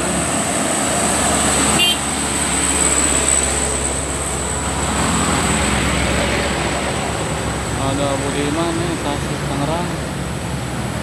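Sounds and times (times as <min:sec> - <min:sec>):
heavy truck engine passing: 0:00.0 - 0:11.0
road traffic noise: 0:00.0 - 0:11.0.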